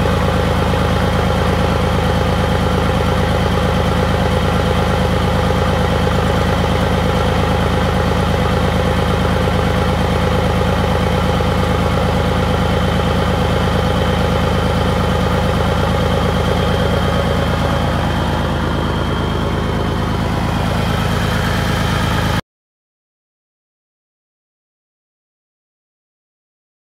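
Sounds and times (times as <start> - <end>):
diesel truck engine idling: 0.0 - 22.4.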